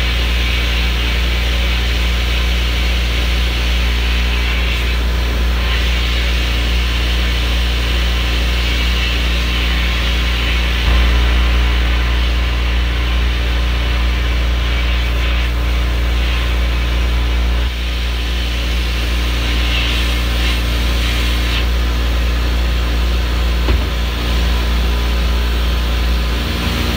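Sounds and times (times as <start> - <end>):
low machine hum: 0.0 - 26.9
sandblasting hiss: 0.0 - 26.9.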